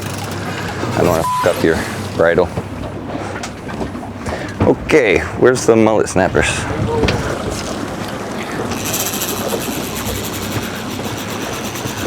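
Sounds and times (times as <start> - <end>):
boat engine: 0.0 - 12.0
water rushing along hull: 0.0 - 12.0.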